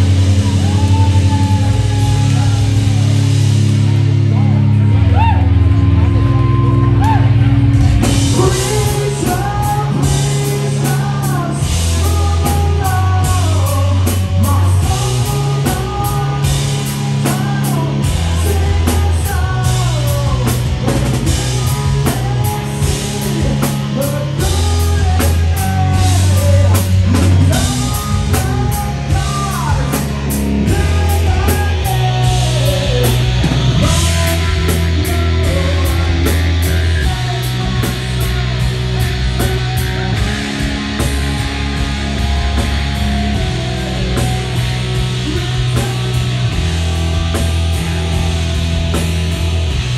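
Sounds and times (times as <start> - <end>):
person singing: 0.0 - 3.3, 8.0 - 49.0
bass guitar low notes: 0.0 - 49.9
live rock band: 0.0 - 49.9.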